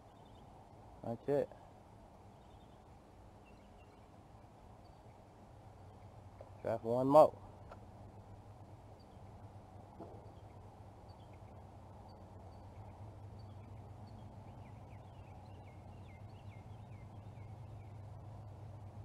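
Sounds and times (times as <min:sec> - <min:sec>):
faint bird chirps: 0:00.0 - 0:07.1, 0:08.1 - 0:19.0
steady low background noise: 0:00.0 - 0:19.0.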